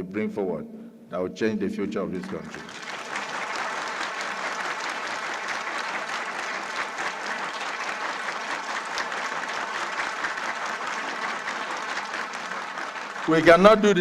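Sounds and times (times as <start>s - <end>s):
large audience applauding: 2.2s - 14.0s.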